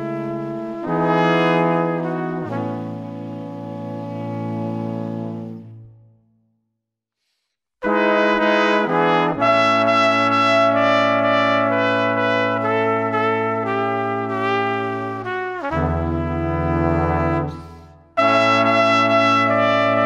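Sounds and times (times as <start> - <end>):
brass instruments playing chords: 0.0 - 6.1, 7.8 - 20.0.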